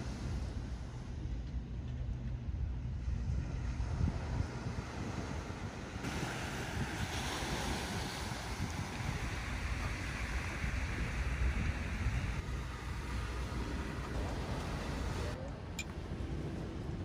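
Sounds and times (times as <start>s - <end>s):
wind buffeting microphone: 0.0s - 17.0s
sea waves washing onto shore: 3.0s - 17.0s.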